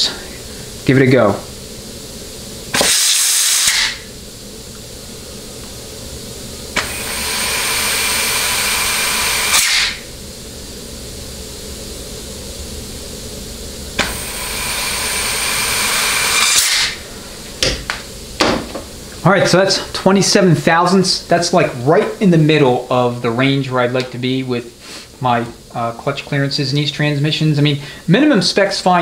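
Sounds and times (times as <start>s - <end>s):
compressed air hissing: 0.0s - 23.1s, 24.6s - 29.0s.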